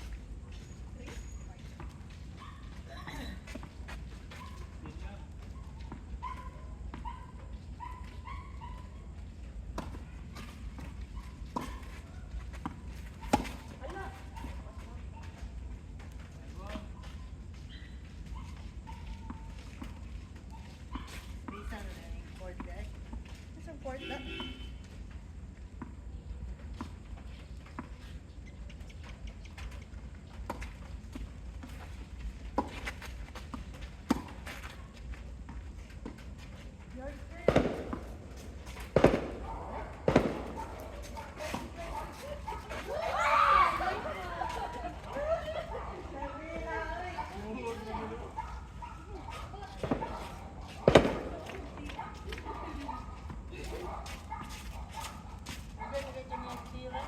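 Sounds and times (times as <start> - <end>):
footsteps: 0.0 - 57.0.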